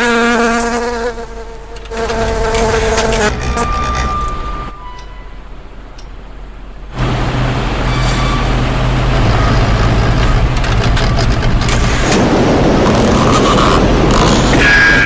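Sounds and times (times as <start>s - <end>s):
engine-like rumble with low hum: 1.6s - 14.8s.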